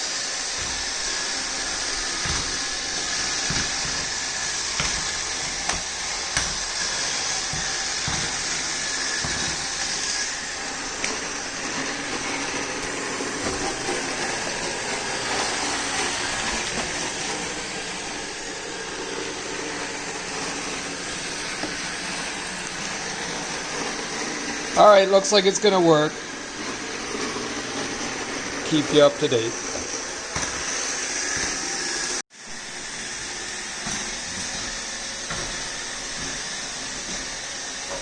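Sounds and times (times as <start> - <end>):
robot vacuum whirring: 0.0 - 38.0.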